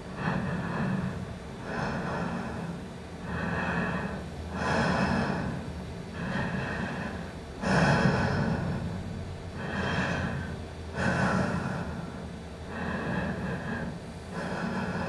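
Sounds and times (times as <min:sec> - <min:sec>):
loud human breathing: 0:00.0 - 0:15.0.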